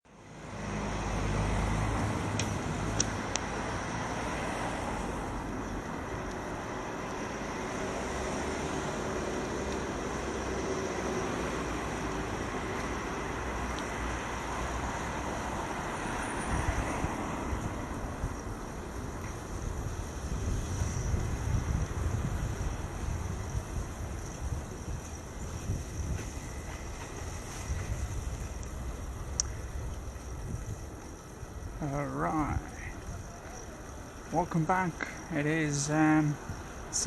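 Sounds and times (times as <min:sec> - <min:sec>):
city traffic rumble: 0:00.0 - 0:37.0.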